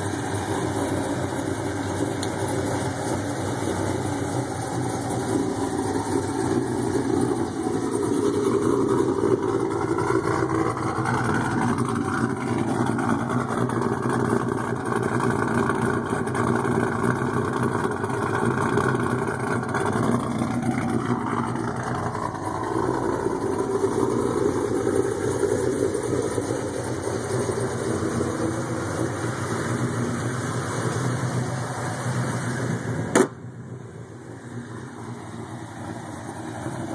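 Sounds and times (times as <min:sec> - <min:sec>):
engine running: 0:00.0 - 0:36.9.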